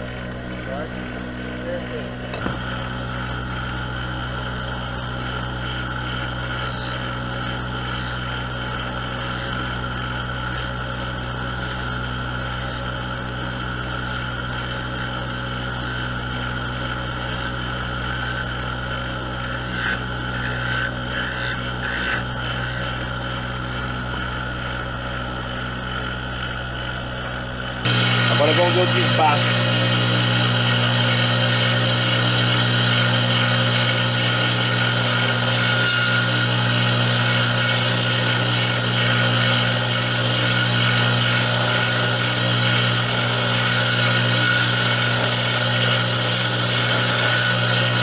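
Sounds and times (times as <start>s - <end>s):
wood lathe motor humming: 0.0s - 48.0s.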